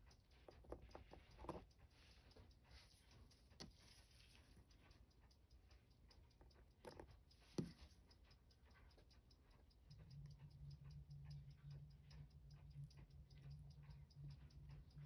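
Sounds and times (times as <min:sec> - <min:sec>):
low steady hum: 0:00.0 - 0:15.0
mechanical watch ticking: 0:00.0 - 0:15.0.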